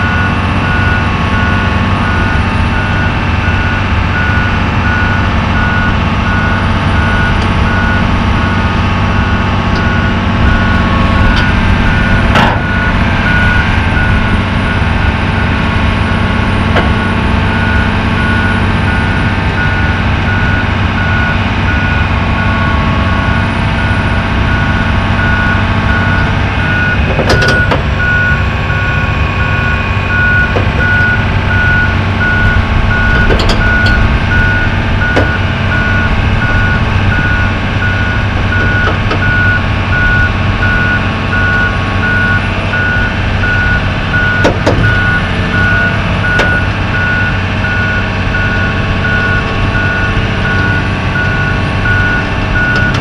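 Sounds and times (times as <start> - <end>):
backup alarm beeping: 0.0 - 53.0
diesel engine running: 0.0 - 53.0.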